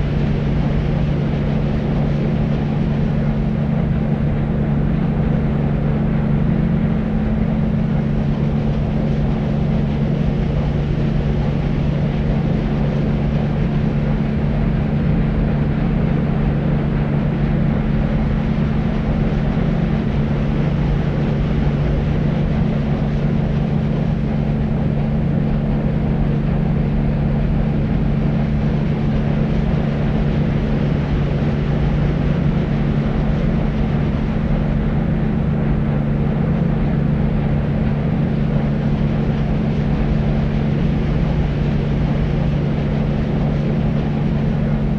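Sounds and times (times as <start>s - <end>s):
low hum: 0.0s - 44.9s
low rushing white noise: 0.0s - 44.9s.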